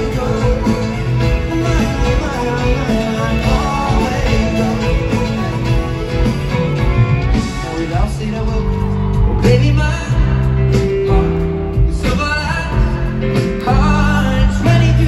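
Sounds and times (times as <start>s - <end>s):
live pop music over loudspeakers: 0.0s - 15.0s.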